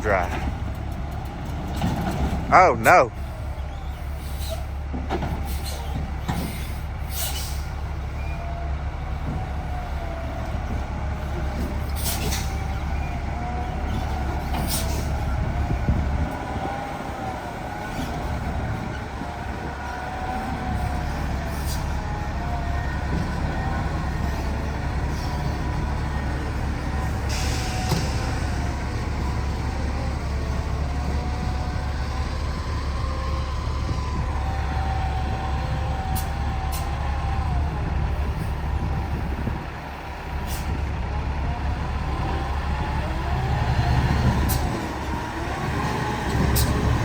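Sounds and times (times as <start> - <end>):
truck engine rumbling: 0.0 - 47.0.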